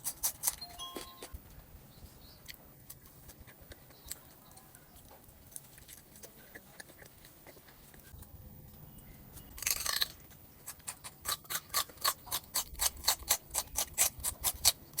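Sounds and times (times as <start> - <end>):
crunching raw vegetable: 0.0 - 1.4, 2.2 - 8.3, 9.3 - 15.0.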